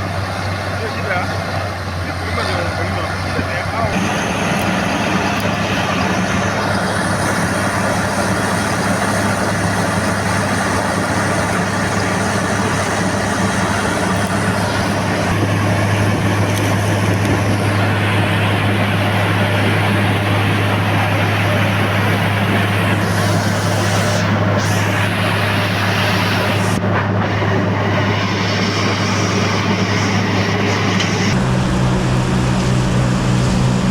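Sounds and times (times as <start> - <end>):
combine harvester engine drone: 0.0 - 33.9.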